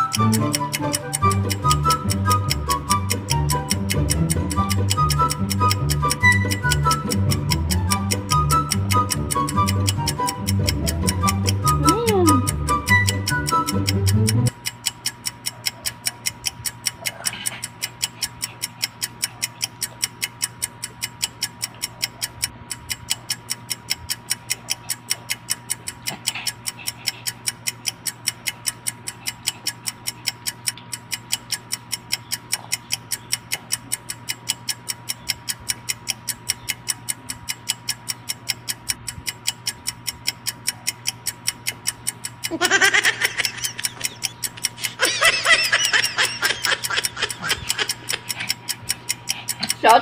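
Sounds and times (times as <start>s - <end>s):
clock ticking fast: 0.0s - 50.0s.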